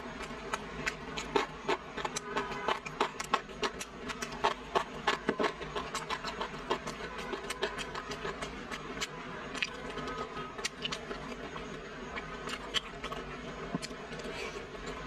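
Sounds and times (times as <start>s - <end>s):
crunching fried roll: 0.0s - 15.0s.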